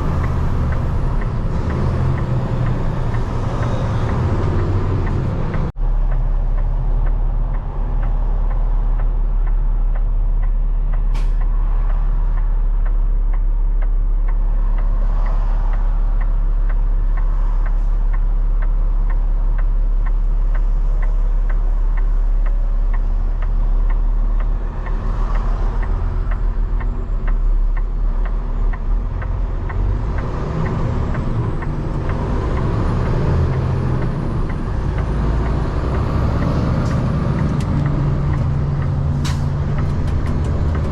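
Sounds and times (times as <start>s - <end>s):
diesel truck engine running: 0.0s - 40.9s
turn signal ticking: 0.0s - 40.9s.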